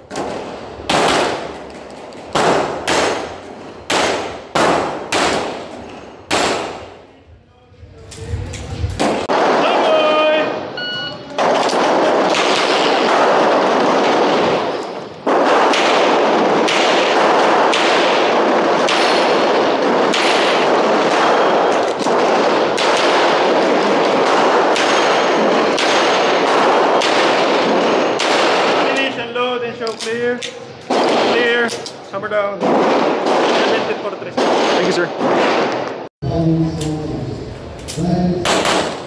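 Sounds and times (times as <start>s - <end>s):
pistol shots with echo: 0.0s - 7.1s, 8.9s - 10.7s, 11.4s - 29.3s, 30.4s - 32.0s, 32.6s - 36.1s, 38.4s - 39.0s.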